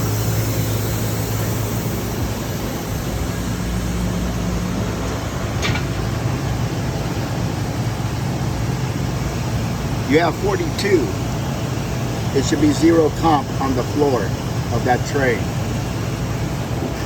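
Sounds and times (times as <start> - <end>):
machine-shop machinery humming: 0.0 - 17.0.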